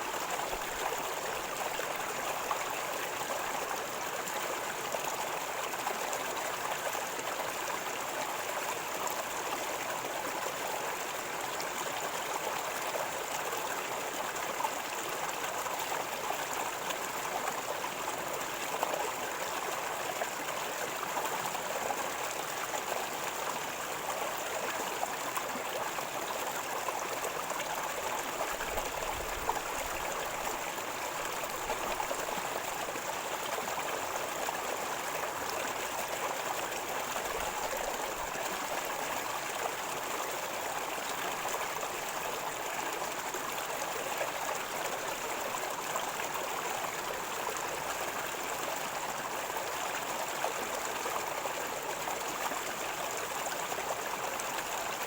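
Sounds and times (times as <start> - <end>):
river water flowing and gurgling: 0.0 - 55.0.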